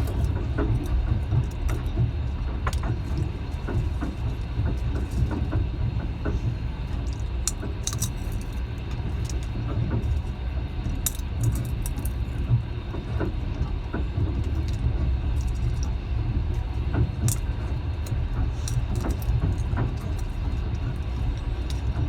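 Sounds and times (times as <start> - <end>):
carriage and rail clicks: 0.0 - 22.0
train rumbling on track: 0.0 - 22.0.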